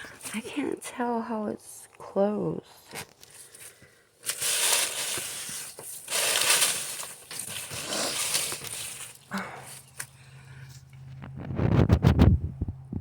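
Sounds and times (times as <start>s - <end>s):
rustling and scraping handling noise: 0.0s - 0.8s, 2.7s - 12.4s.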